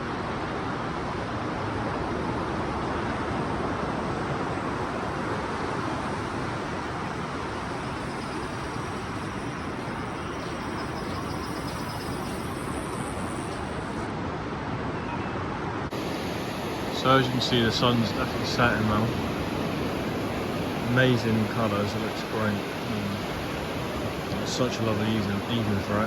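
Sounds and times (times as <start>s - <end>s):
sea surf breaking: 0.9s - 14.4s, 15.9s - 26.0s.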